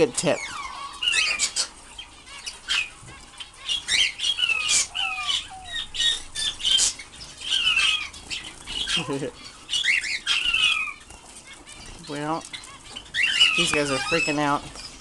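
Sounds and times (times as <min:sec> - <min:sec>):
canaries and finches chirping: 0:00.0 - 0:15.0.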